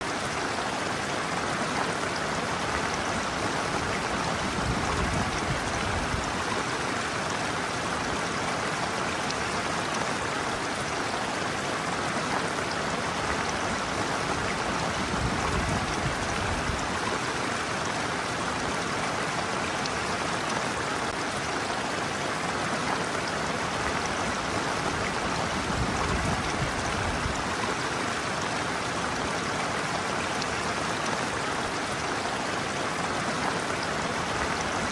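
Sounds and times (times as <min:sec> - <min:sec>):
stream water running: 0:00.0 - 0:34.9.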